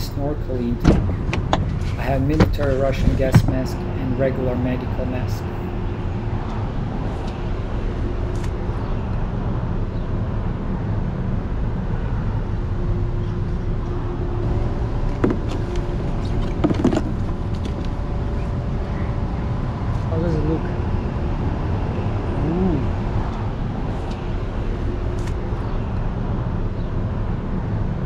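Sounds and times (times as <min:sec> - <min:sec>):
engine idling rumble: 0:00.0 - 0:27.7.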